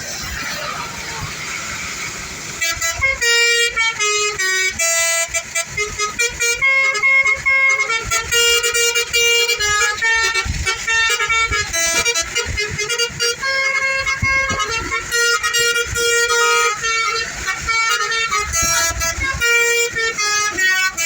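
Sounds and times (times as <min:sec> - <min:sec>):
multi-tone bus horn tune: 0:00.1 - 0:21.0.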